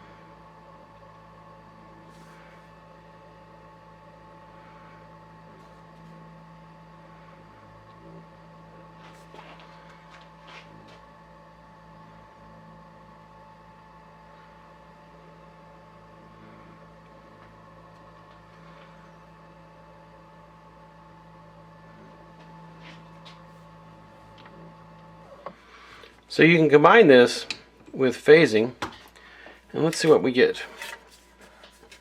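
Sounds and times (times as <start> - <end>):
faint high whine: 0.0 - 31.7.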